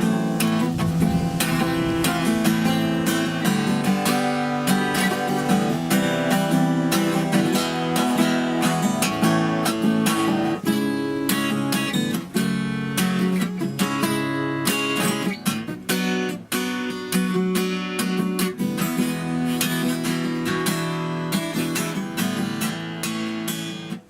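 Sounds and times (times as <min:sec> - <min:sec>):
acoustic guitar strummed and picked: 0:00.0 - 0:24.0.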